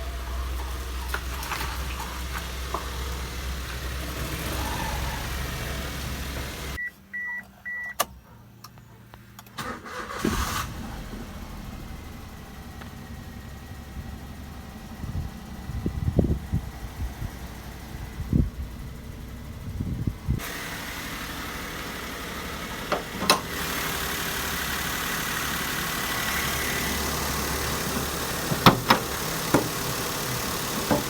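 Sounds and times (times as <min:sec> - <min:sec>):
car engine running: 0:00.0 - 0:06.8, 0:09.6 - 0:31.0.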